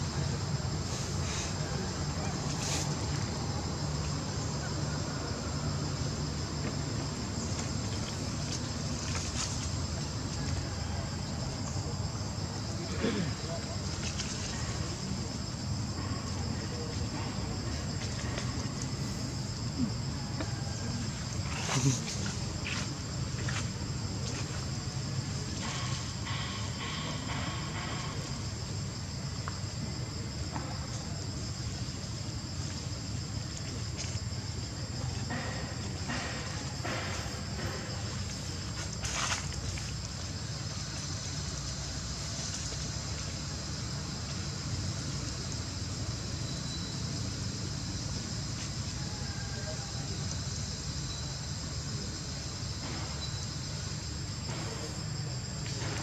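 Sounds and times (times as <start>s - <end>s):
continuous low rumble: 0.0s - 56.0s
high-pitched insect chorus: 0.0s - 56.0s.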